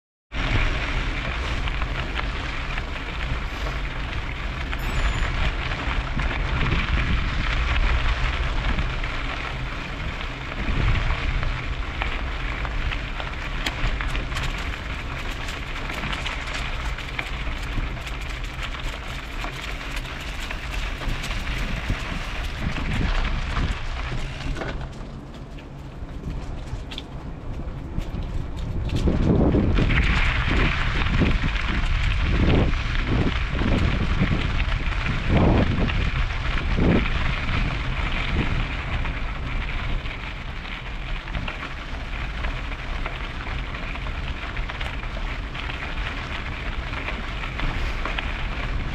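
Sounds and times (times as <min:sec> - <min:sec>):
bike tyres crunching on gravel: 0:00.3 - 0:48.9
wind rumbling on microphone: 0:00.3 - 0:48.9.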